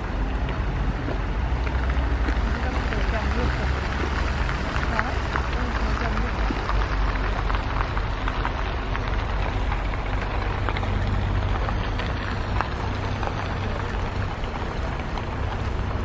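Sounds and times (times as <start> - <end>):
heavy truck rumbling: 0.0 - 16.0
crackling hiss of snow: 0.2 - 16.0.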